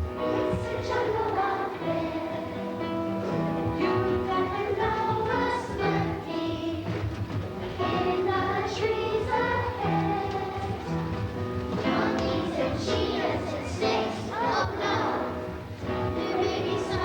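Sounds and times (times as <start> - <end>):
musical accompaniment: 0.0 - 17.0
children singing: 0.2 - 7.1, 7.7 - 17.0.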